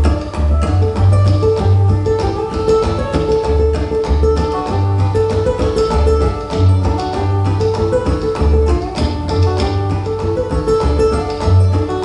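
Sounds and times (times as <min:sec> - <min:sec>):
bowed cello: 0:00.0 - 0:12.0
plucked ukulele: 0:00.0 - 0:12.0.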